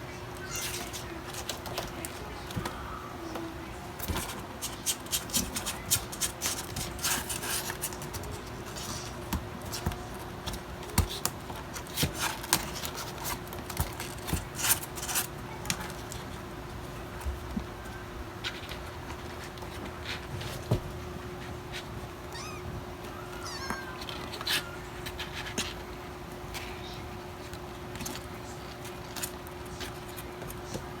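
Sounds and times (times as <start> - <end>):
light scratching and tapping: 0.3 - 31.0.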